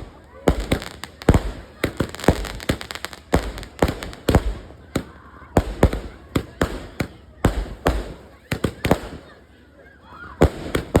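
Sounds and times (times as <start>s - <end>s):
firework bangs with echoing booms: 0.0s - 9.5s, 10.3s - 11.0s.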